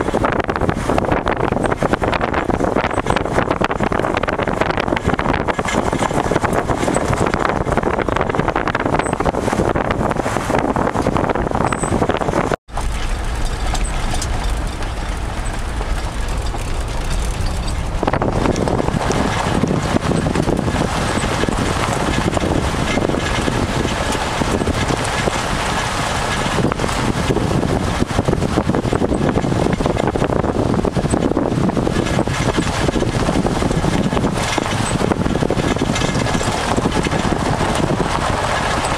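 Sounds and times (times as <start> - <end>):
wind and road noise: 0.0 - 38.9
wind buffeting on microphone: 0.0 - 38.9.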